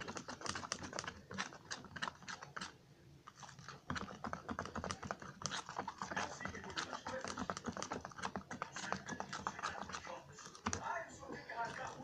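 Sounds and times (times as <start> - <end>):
spoon stirring sticky slime: 0.0 - 12.0.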